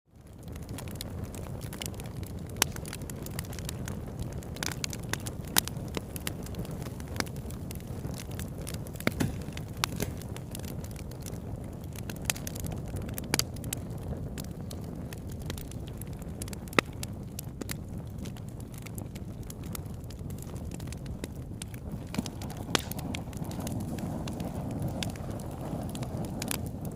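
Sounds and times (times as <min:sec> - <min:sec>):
bonfire flames roaring: 0:00.1 - 0:26.9
burning wood crackling and popping: 0:00.1 - 0:26.9.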